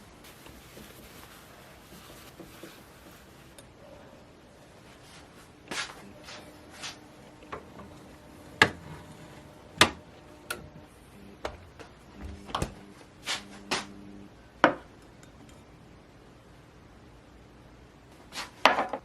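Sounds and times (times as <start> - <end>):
faint low hum: 0.0 - 18.3.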